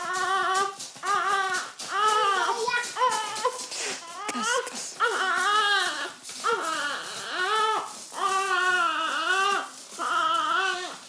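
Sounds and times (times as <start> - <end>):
infant crying: 0.0 - 11.0.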